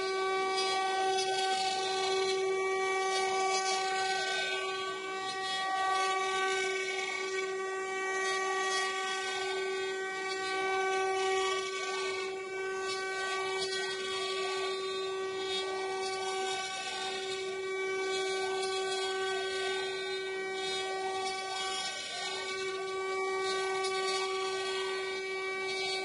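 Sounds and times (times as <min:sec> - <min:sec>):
router motors whining: 0:00.0 - 0:26.0.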